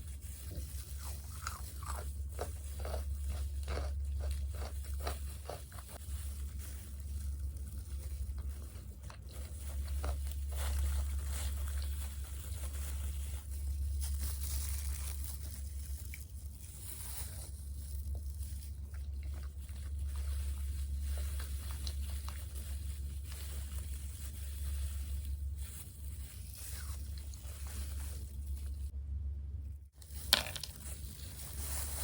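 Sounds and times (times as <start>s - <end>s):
crunchy chewing: 0.0s - 28.9s
low hum: 0.0s - 32.0s.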